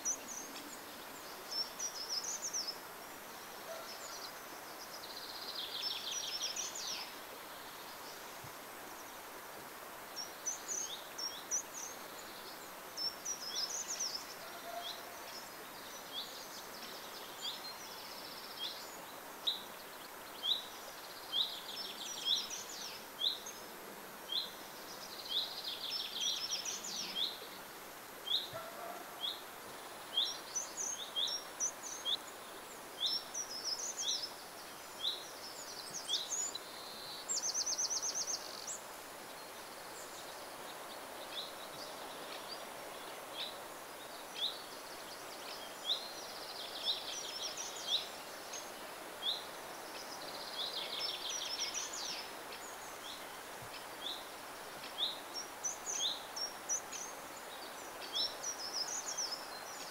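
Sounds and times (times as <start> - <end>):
birds singing: 0.0 - 2.8, 10.2 - 23.7, 24.3 - 59.9
steady background hiss: 0.0 - 59.9.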